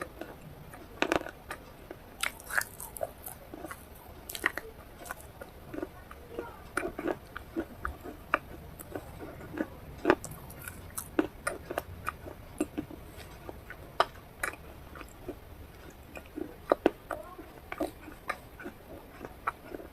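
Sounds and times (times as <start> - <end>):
person chewing crisp food: 0.0 - 19.9.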